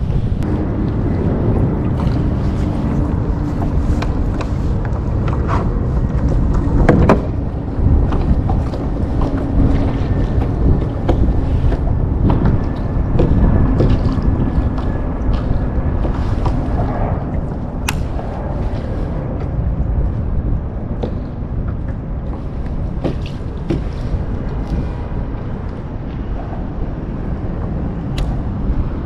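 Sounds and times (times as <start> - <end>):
choppy water: 0.0 - 29.0
wind rumble on microphone: 0.0 - 29.0.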